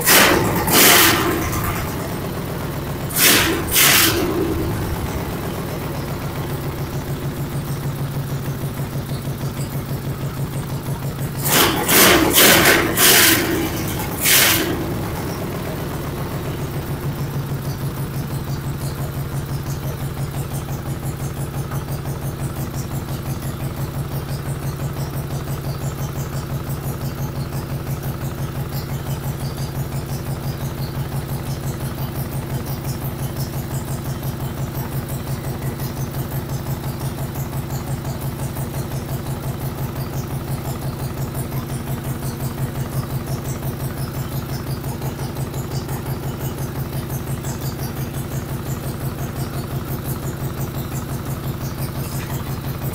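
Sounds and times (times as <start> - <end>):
lawn mower engine revving and idling: 0.0 - 52.9.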